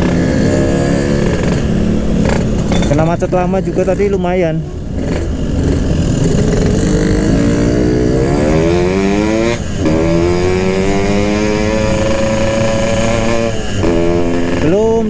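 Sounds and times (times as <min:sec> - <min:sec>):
two-stroke motorcycle engine accelerating: 0:00.0 - 0:15.0.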